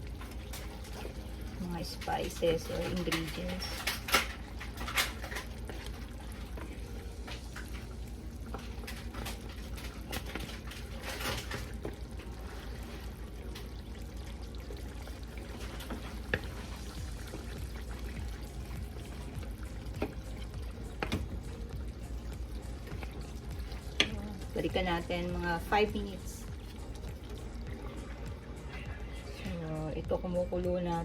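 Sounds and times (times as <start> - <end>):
pot of sauce bubbling: 0.0 - 29.6
steady low hum: 0.0 - 31.0.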